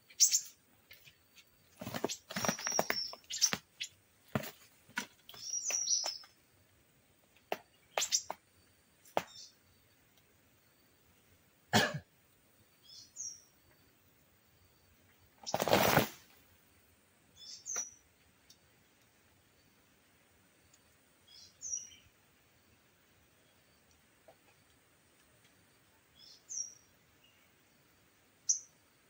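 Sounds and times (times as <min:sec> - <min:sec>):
small birds chirping: 0:00.0 - 0:11.4, 0:12.6 - 0:16.3, 0:17.3 - 0:29.0.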